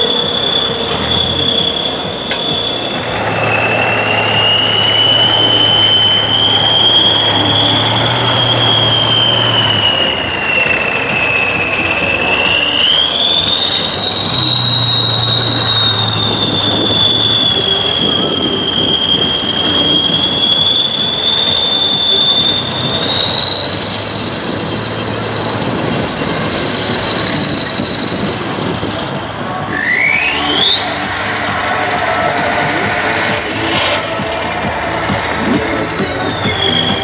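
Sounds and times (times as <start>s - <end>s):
high-pitched turbo whistle: 0.0s - 37.0s
tractor diesel engine rumble: 0.0s - 37.0s.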